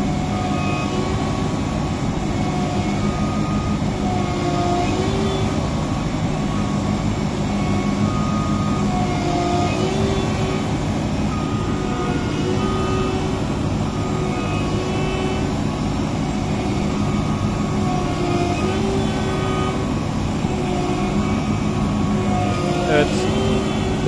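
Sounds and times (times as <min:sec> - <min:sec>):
combine harvester engine under load: 0:00.0 - 0:24.0.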